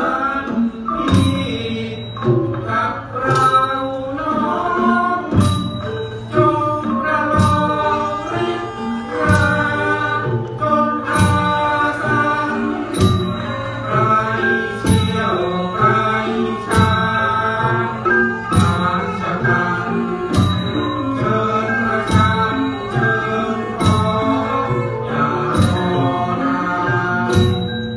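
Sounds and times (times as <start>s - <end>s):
pitched ensemble melody: 0.0s - 27.9s
heavy drum strokes: 5.0s - 27.9s.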